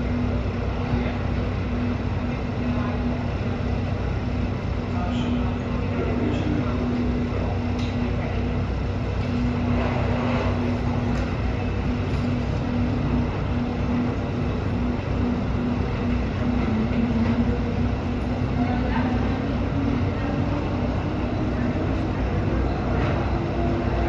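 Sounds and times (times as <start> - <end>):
low wavering hum: 0.0 - 24.0
train rumbling on guideway: 0.0 - 24.0.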